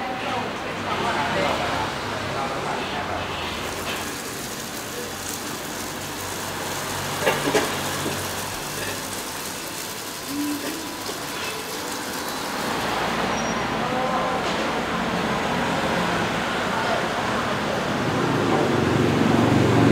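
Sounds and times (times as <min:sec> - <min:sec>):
traffic: 0:00.0 - 0:19.9.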